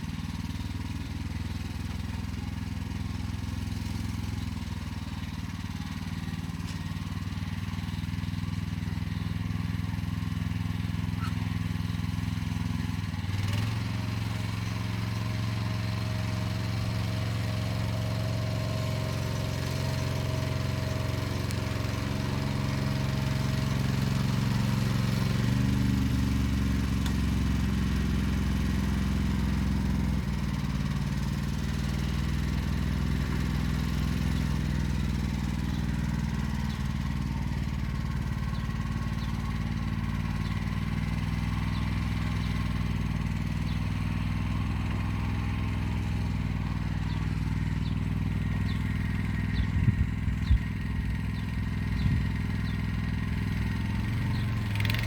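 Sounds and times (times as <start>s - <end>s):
walk-behind tractor engine running: 0.0s - 55.0s.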